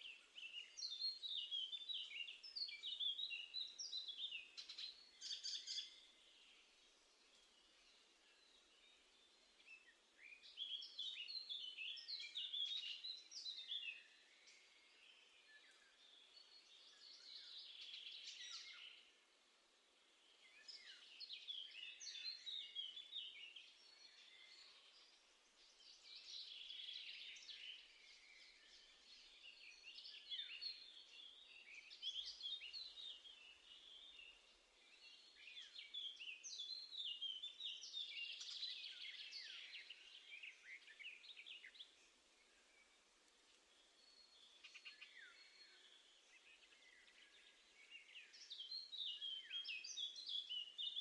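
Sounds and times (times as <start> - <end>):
faint background hiss: 0.0 - 51.0
songbirds chirping: 0.0 - 51.0.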